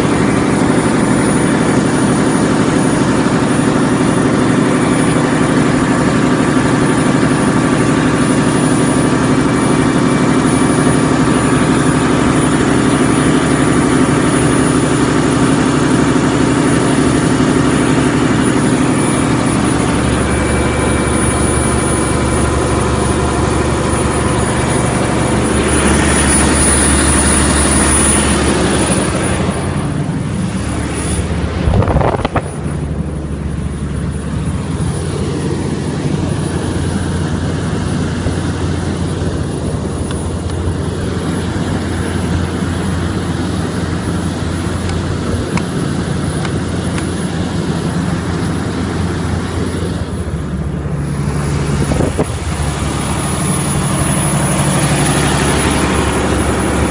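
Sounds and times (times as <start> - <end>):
diesel generator running: 0.0 - 56.9.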